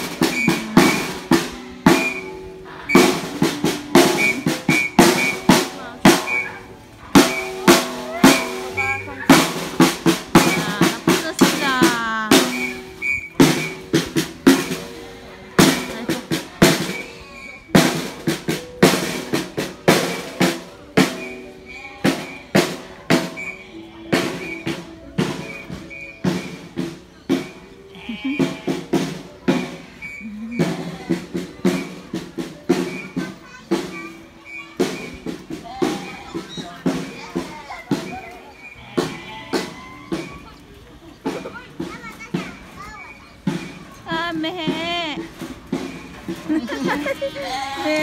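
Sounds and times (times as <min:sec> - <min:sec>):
rapid irregular drumming: 0:00.0 - 0:48.0.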